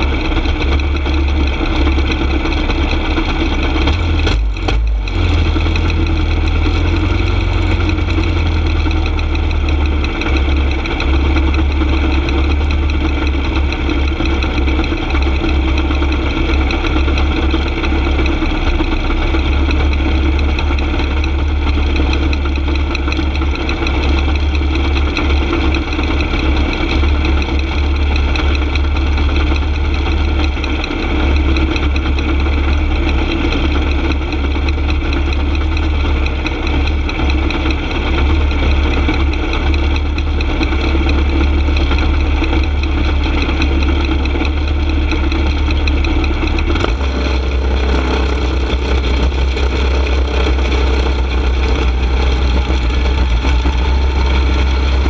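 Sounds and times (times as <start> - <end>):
go-kart engine idling: 0.0 - 55.0.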